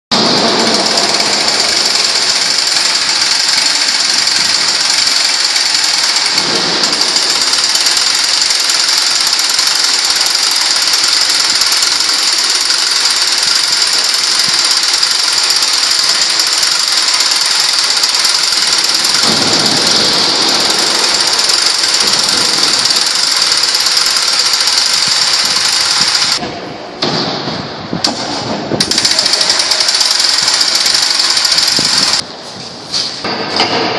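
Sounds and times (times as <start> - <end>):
power tool running with hiss: 0.8 - 26.4, 28.9 - 32.2.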